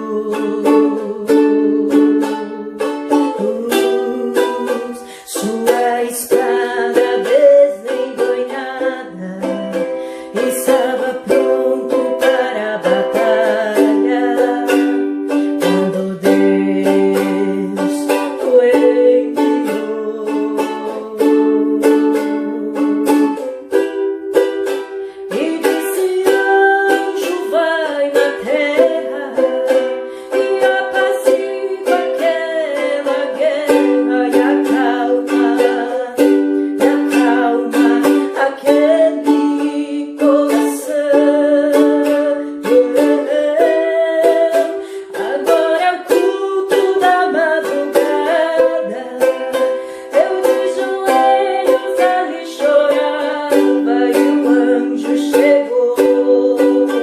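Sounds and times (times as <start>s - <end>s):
ukulele strumming a hymn: 0.0s - 57.0s.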